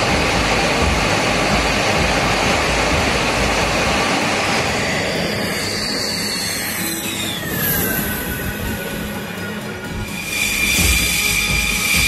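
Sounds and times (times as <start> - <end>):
jet aircraft roar: 0.0 - 12.0
jet engine whine sliding down: 0.0 - 12.0.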